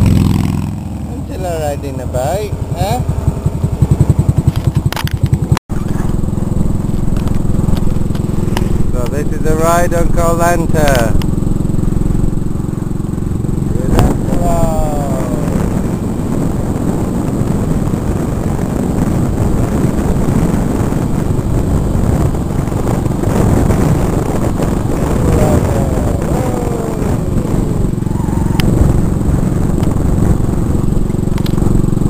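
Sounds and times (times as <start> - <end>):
scooter engine running: 0.0 - 32.0
wind rushing over microphone: 0.0 - 32.0.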